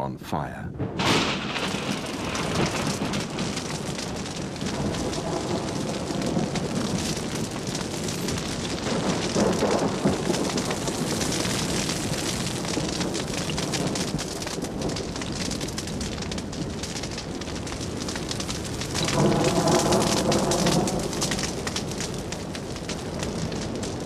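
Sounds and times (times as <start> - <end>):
low rumble of flames: 0.5 - 24.0
fire crackling: 0.8 - 24.0.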